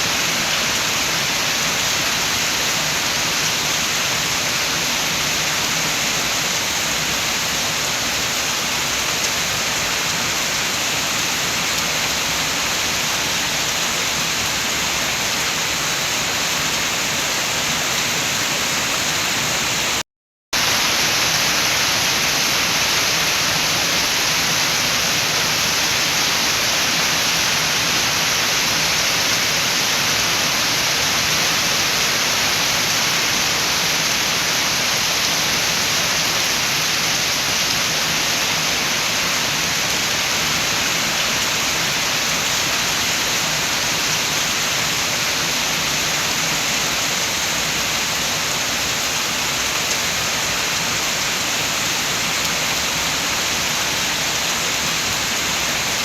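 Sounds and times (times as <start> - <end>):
steady rain: 0.0 - 20.0, 20.6 - 56.0
wind: 0.0 - 56.0.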